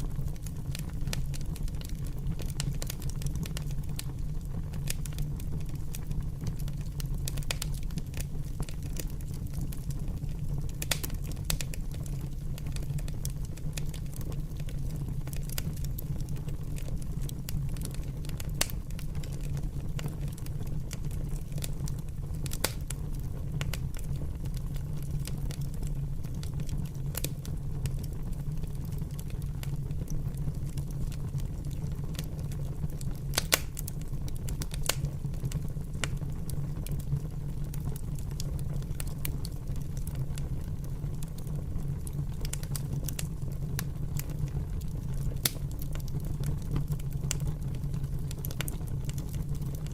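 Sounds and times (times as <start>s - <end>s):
fire crackling: 0.0s - 49.9s.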